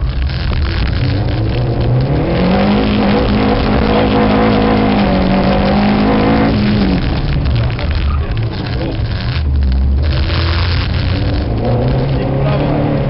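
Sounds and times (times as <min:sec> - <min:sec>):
car engine revving: 0:00.0 - 0:13.0
road and tyre noise: 0:00.0 - 0:13.0.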